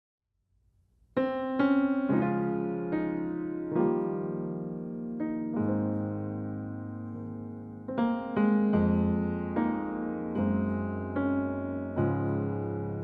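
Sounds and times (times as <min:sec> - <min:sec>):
gentle piano music: 0:01.1 - 0:13.0.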